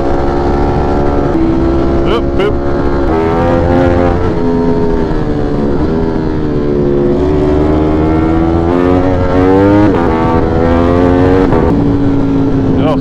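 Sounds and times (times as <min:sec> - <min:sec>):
motorcycle engine shifting gears: 0:00.0 - 0:13.0.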